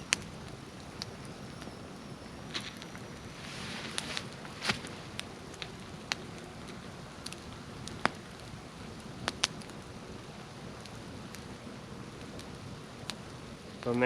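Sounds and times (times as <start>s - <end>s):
wood campfire crackling: 0.0s - 14.0s.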